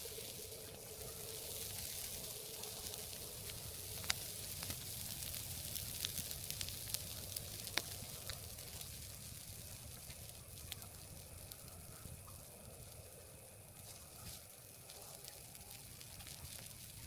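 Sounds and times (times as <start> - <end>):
fire crackling pops: 0.0 - 17.0
wood fire hissing: 0.0 - 17.0.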